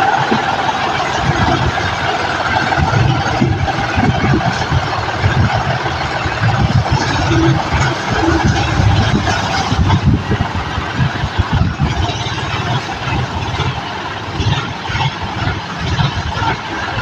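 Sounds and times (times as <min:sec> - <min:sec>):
tractor diesel engine rumbling: 0:00.0 - 0:17.0.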